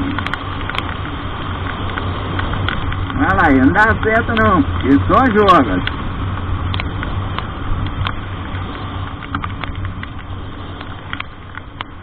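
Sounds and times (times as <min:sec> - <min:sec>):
engine and road hum: 0:00.0 - 0:12.0
raindrops tapping: 0:00.0 - 0:12.0
wet road noise hiss: 0:00.0 - 0:12.0.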